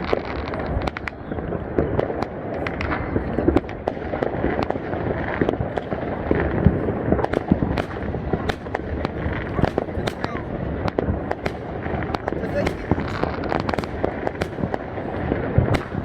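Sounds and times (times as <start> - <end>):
crackling rumble of fireworks: 0.0 - 16.0
fireworks cracks and pops: 0.0 - 16.0.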